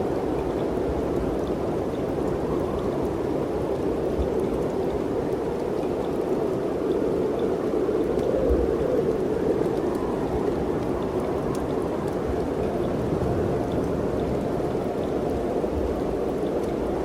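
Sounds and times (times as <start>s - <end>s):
mountain wind blowing: 0.0s - 17.0s
faint scattered ticks: 0.2s - 17.0s.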